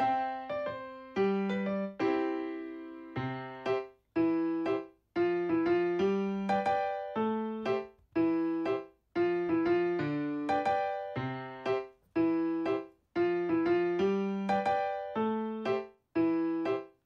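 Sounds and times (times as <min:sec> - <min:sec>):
keyboard chords and notes: 0:00.0 - 0:17.0.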